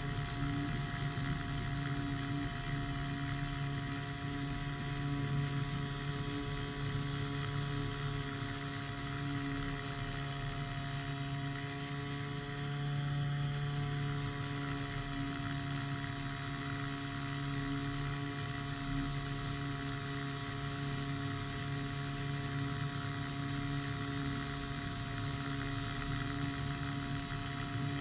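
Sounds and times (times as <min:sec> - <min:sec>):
engine and propeller drone: 0:00.0 - 0:28.0.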